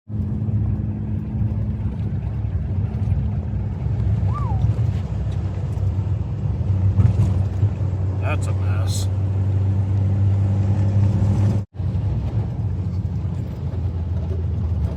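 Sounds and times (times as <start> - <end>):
vehicle engine and road drone: 0.1 - 14.9.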